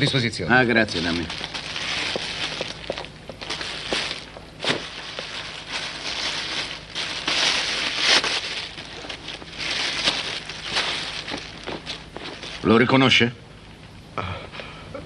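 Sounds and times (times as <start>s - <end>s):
plastic bag crinkling: 0.7s - 13.1s.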